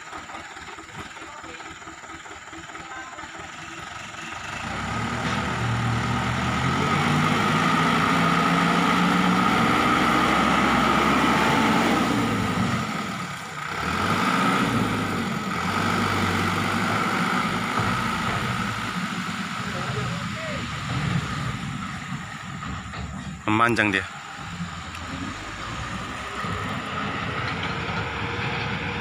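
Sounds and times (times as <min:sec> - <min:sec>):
diesel truck engine revving: 0:00.0 - 0:29.0.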